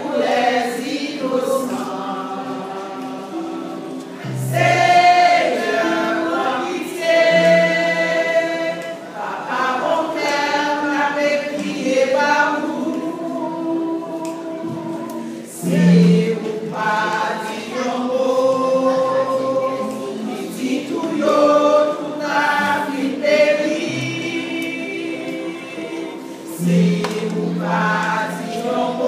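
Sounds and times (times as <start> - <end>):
women's choir singing: 0.0 - 29.0.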